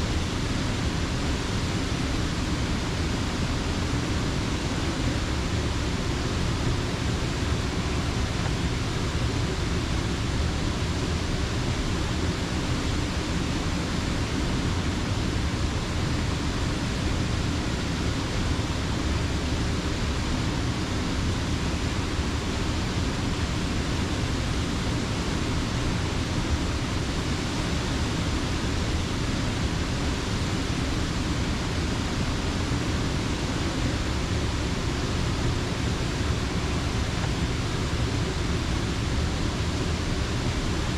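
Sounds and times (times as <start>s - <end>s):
water rushing over a dam: 0.0s - 40.9s.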